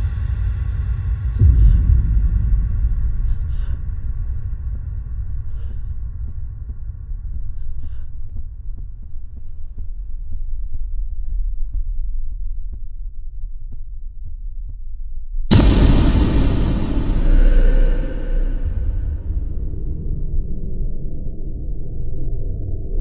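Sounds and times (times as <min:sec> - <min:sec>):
deep steady drone: 0:00.0 - 0:14.8, 0:15.5 - 0:23.0.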